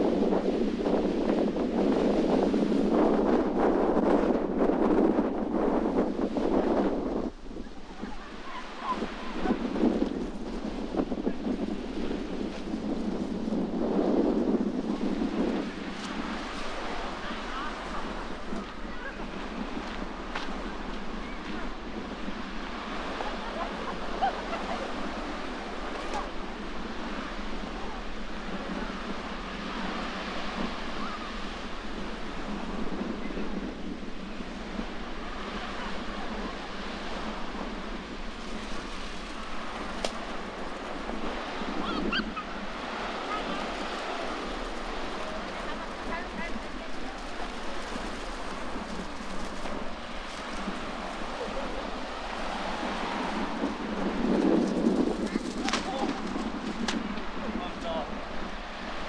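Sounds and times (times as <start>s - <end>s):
surf washing on shore: 0.0s - 59.0s
wind buffeting microphone: 0.0s - 59.0s.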